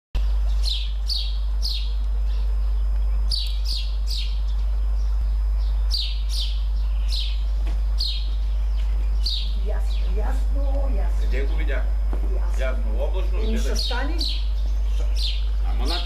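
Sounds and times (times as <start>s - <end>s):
small bird calling: 0.2s - 16.0s
steady low hum: 0.2s - 16.0s.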